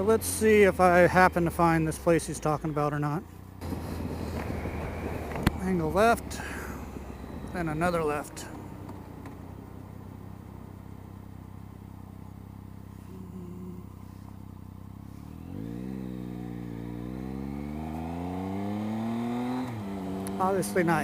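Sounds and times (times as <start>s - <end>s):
motorcycle engine accelerating: 3.5s - 21.0s.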